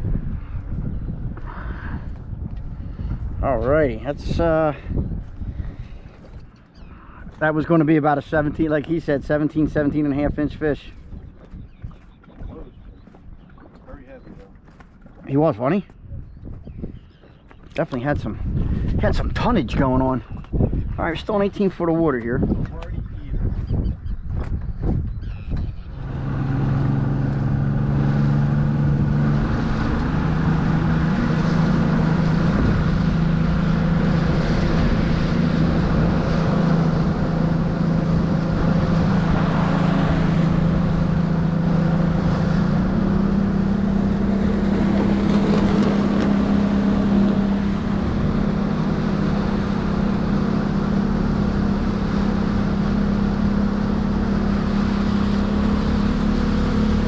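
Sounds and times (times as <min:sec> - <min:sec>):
outboard motor running: 0:00.0 - 0:23.1, 0:24.6 - 0:57.0.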